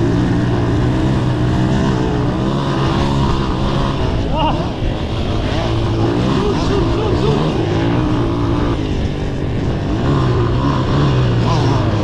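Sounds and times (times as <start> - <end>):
dirt bike engine revving: 0.0 - 12.0
wind rush on microphone: 0.0 - 12.0.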